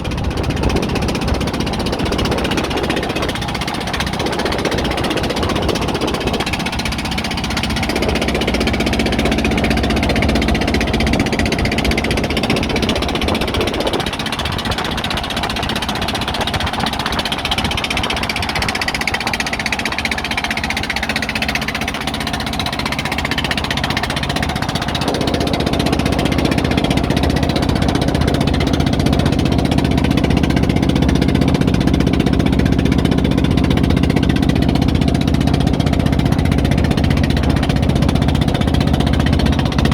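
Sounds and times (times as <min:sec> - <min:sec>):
engine knocking and throbbing: 0:00.0 - 0:39.9.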